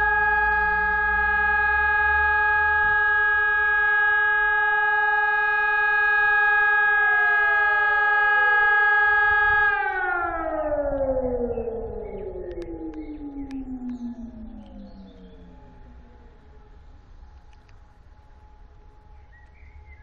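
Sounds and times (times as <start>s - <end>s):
second siren winding down: 0.0s - 19.9s
civil defence siren: 0.0s - 20.0s.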